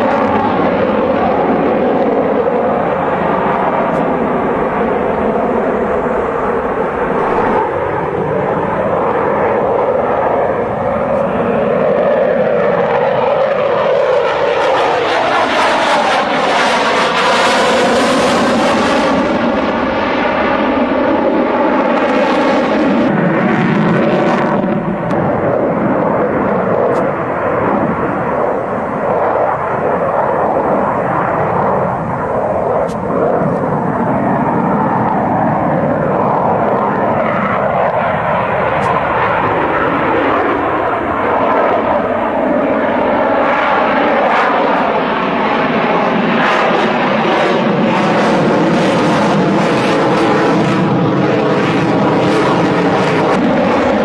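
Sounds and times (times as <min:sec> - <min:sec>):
fighter jet engine roar: 0:00.0 - 0:54.0.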